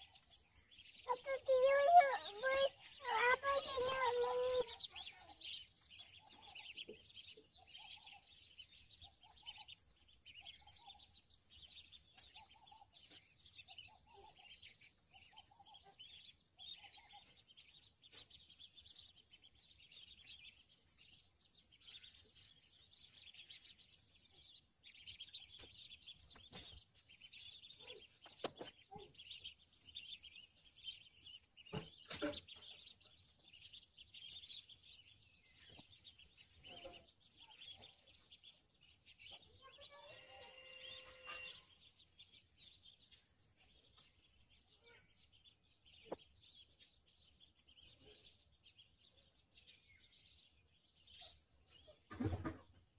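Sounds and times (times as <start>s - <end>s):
ducklings peeping: 0.0s - 52.9s.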